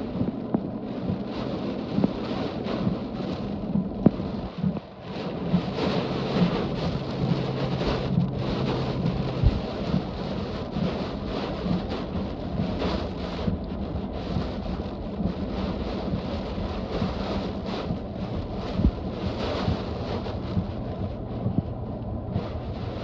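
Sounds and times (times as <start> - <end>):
strong wind gusts: 0.0 - 23.0
wind buffeting microphone: 0.0 - 23.0.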